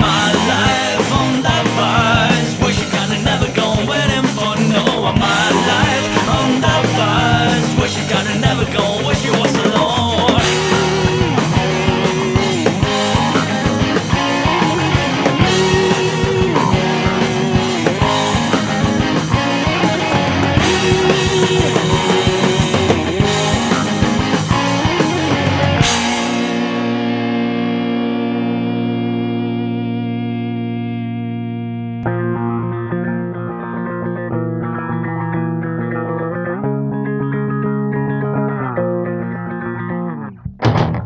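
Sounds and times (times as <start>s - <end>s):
instrumental rock band playing: 0.0s - 41.0s.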